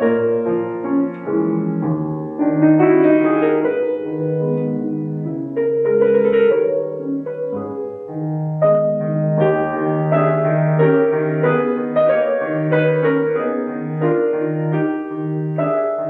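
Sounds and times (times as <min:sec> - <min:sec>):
solo grand piano piece: 0:00.0 - 0:16.0.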